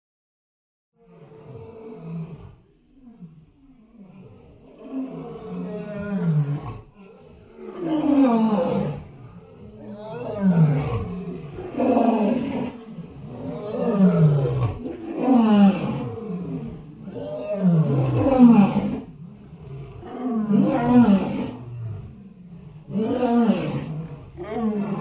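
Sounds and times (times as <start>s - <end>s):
elephant roaring: 3.9s - 25.0s.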